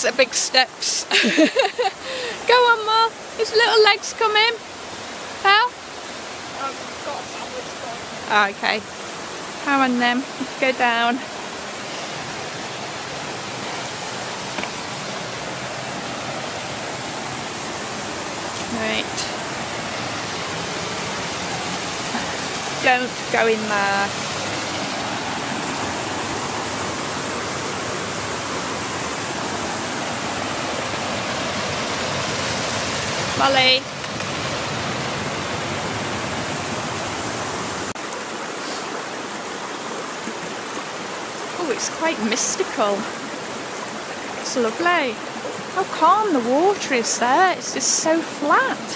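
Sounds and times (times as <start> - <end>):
waterfall and river rushing: 0.0 - 48.9.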